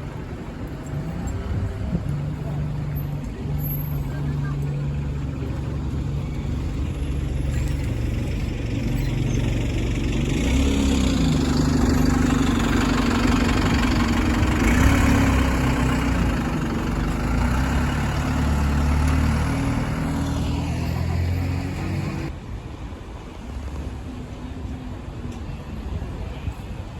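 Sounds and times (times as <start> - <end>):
diesel bus engine running: 0.0 - 22.3.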